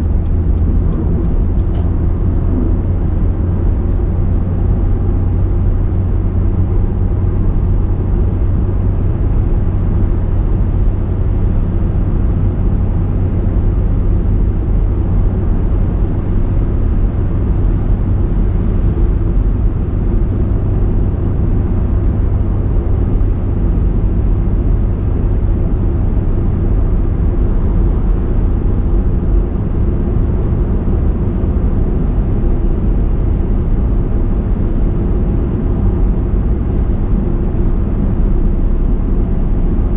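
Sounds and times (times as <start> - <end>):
car engine and tyre road noise: 0.0 - 39.9.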